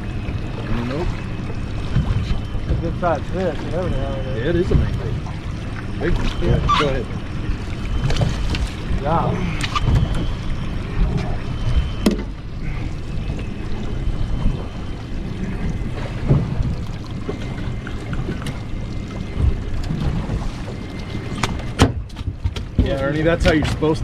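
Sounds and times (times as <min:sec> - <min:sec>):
water sloshing against hull: 0:00.0 - 0:24.0.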